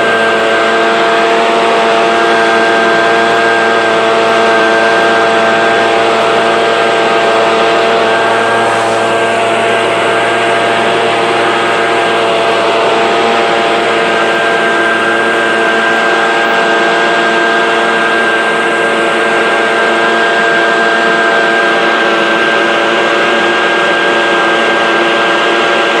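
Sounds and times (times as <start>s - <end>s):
leaf blower running: 0.0s - 26.0s.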